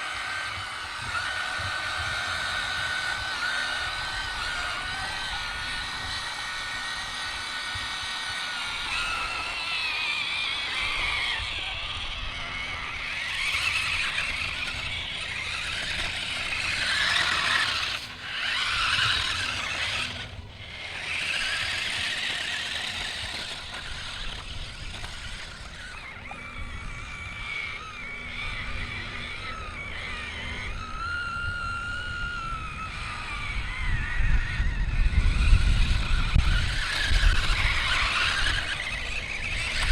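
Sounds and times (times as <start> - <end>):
toy truck electric motors whining: 0.0 - 39.9.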